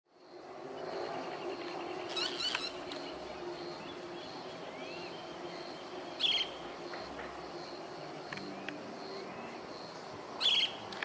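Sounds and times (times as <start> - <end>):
birds chirping: 0.7 - 11.0.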